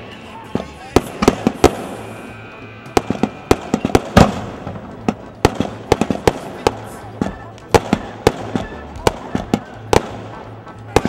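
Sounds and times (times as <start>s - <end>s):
background music: 0.0s - 11.0s
sharp bangs and pops: 0.5s - 11.0s.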